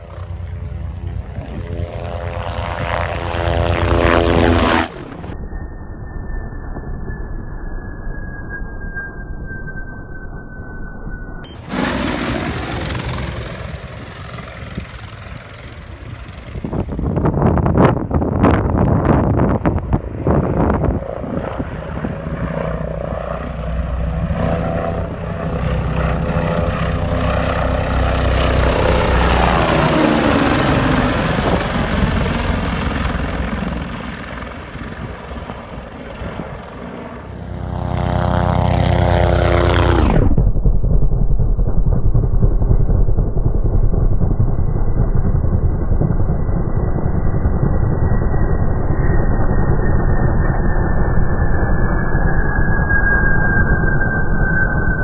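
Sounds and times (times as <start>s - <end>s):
helicopters flying past: 0.0s - 5.4s, 11.5s - 53.1s
helicopter drone passing close: 0.0s - 55.0s.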